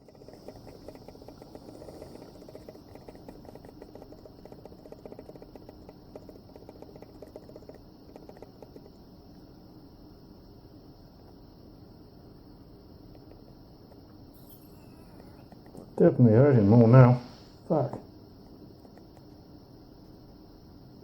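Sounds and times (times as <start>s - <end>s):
soldering iron sizzling: 0.0s - 17.9s
faint high whine: 0.0s - 21.0s.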